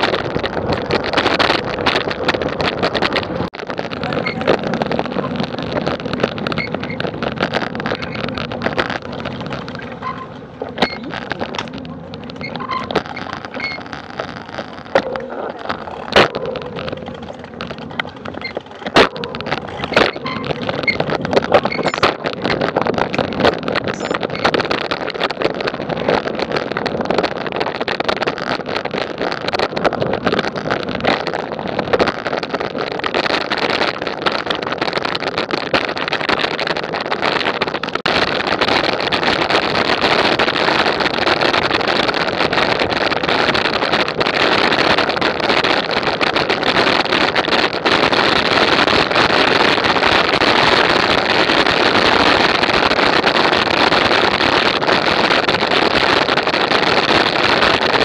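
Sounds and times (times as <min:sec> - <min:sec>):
wind rush and riding noise: 0:00.0 - 0:58.0.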